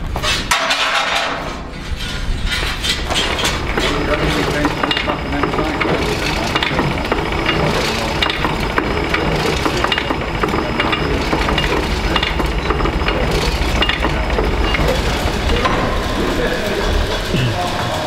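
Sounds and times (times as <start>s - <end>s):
furnace fire roaring and crackling: 0.0s - 18.0s.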